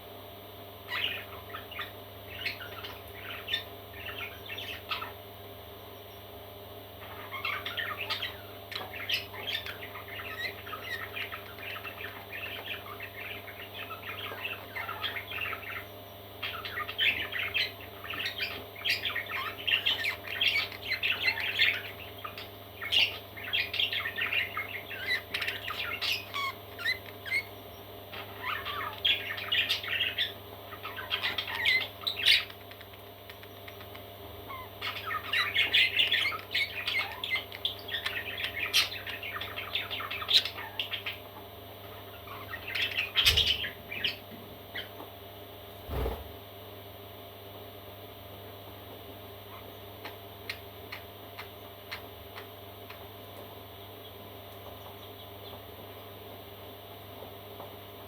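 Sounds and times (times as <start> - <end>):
faint steady hum: 0.0 - 58.0
parrot chicks chirping and squawking: 0.7 - 58.0.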